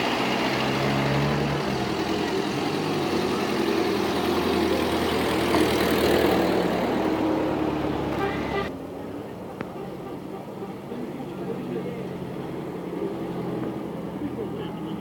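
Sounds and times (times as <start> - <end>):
pickup truck passing: 0.0 - 15.0
vintage car engines passing: 0.0 - 15.0.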